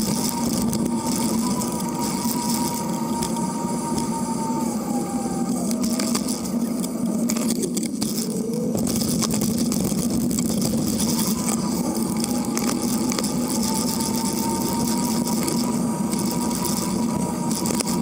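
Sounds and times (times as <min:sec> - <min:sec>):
bicycle tyre rumble: 0:00.0 - 0:18.0
faint steady whine: 0:00.0 - 0:18.0.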